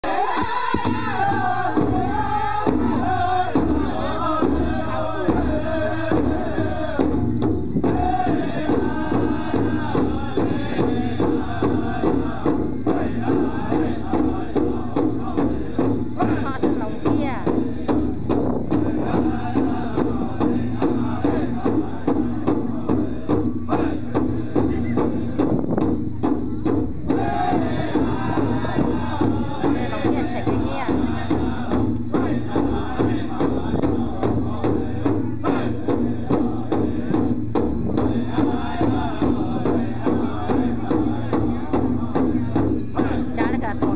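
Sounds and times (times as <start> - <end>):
group singing in a high chant: 0.0 - 25.6, 27.0 - 43.9
large drum beating: 0.1 - 43.9.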